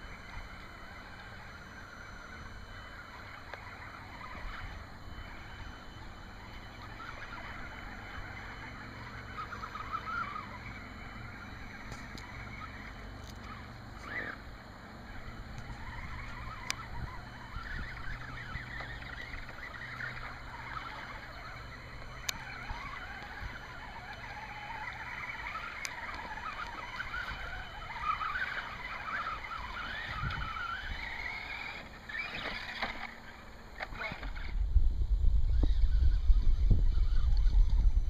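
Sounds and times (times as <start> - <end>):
electric motor whining: 0.0 - 38.0.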